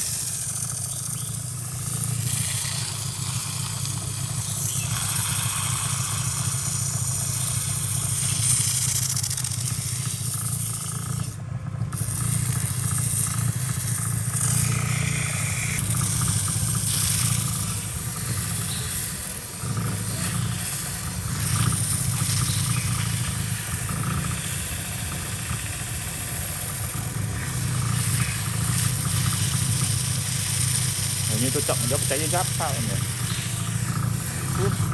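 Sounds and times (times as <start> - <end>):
electric power sander running: 0.0 - 34.9.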